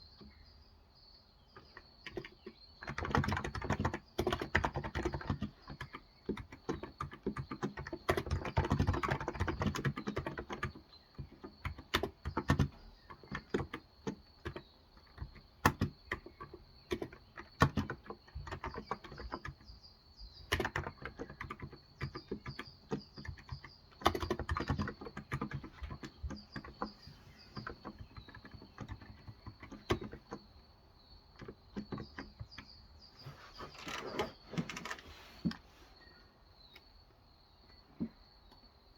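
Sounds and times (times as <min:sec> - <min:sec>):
birds chirping faintly: 0:00.0 - 0:38.9.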